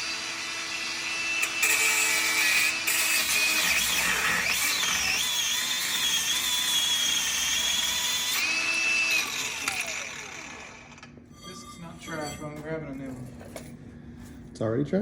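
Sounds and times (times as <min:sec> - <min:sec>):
rotary power tool whining: 0:00.0 - 0:12.6.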